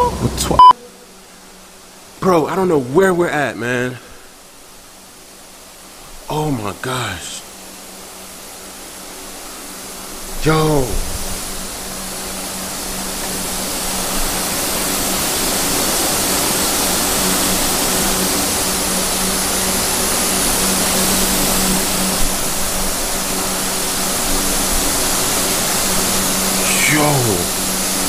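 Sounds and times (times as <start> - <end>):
warehouse machinery hiss and hum: 0.1 - 28.0.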